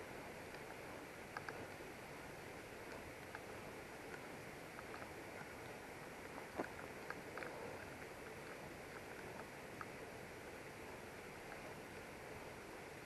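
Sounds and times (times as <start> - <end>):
faint outdoor hiss: 0.0 - 13.0
light irregular ticks: 0.0 - 13.0.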